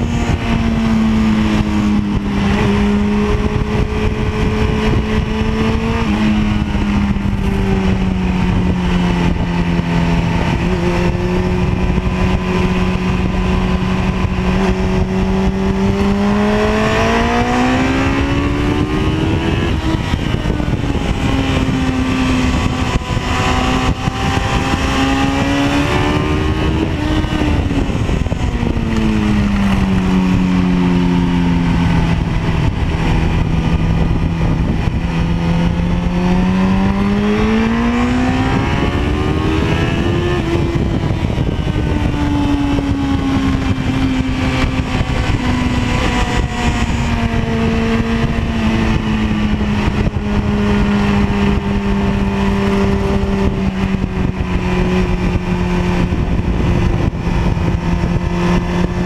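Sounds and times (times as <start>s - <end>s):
motorcycle engine at speed: 0.0s - 59.0s
wind and road noise: 0.0s - 59.0s.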